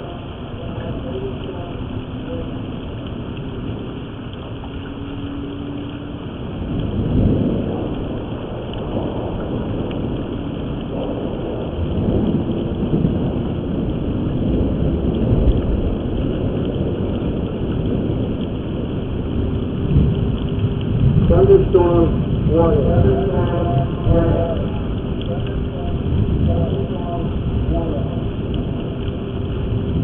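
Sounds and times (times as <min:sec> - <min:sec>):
muffled rolling thunder: 0:00.0 - 0:30.0
steady rain: 0:00.0 - 0:30.0.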